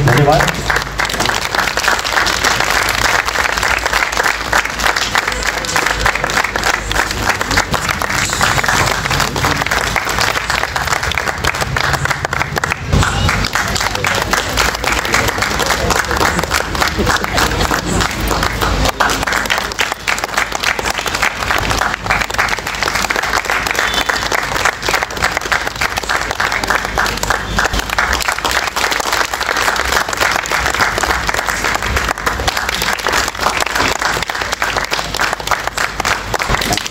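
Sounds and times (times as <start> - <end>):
audience applauding: 0.0 - 36.9.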